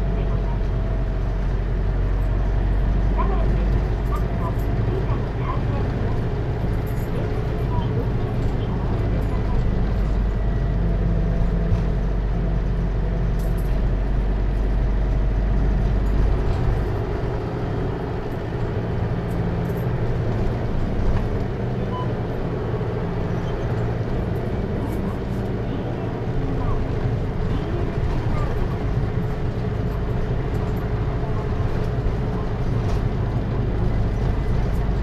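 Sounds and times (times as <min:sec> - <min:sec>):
engine hum: 0:00.0 - 0:35.0
road noise: 0:00.0 - 0:35.0.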